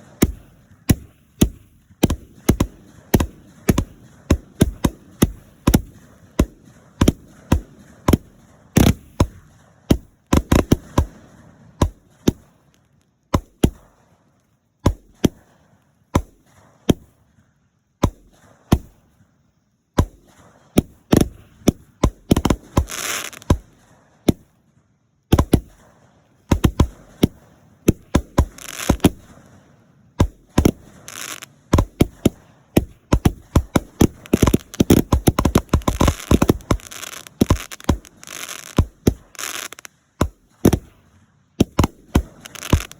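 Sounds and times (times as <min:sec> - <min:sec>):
fireworks bangs: 0:00.0 - 0:42.9
fireworks crackling and hissing: 0:00.0 - 0:42.9.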